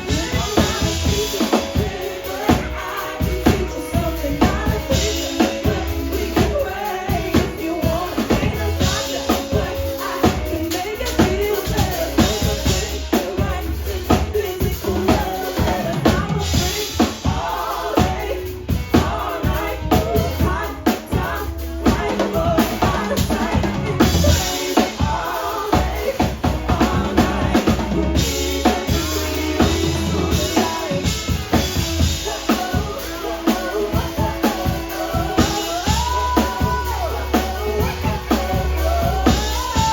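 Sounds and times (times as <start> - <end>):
drum kit beat: 0.0 - 39.9
live band playing: 0.0 - 39.9.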